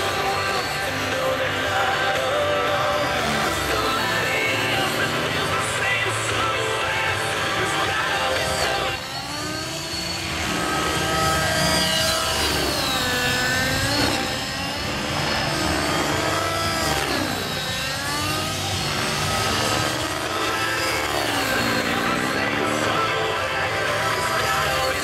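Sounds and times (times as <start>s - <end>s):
rc helicopter engine whine: 0.0s - 25.0s.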